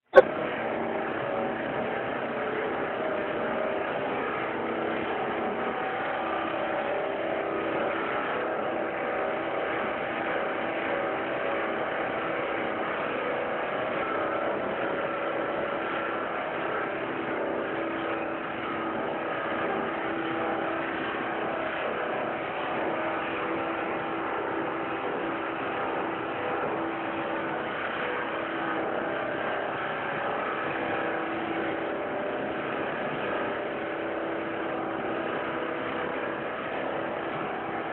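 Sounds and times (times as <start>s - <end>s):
steady machinery noise with hums: 0.0s - 37.9s.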